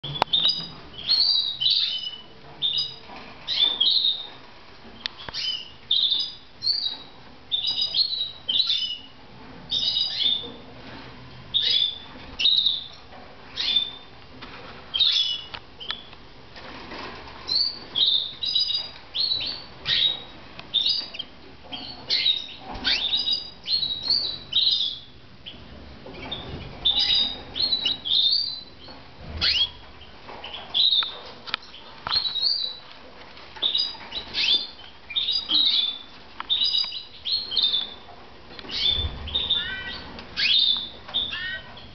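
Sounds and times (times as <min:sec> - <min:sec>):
canaries chirping: 0:00.0 - 0:41.9.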